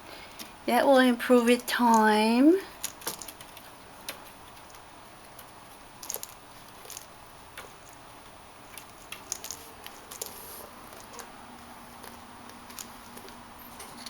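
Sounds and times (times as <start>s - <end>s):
kitten paws tapping and scratching: 1.5s - 14.0s.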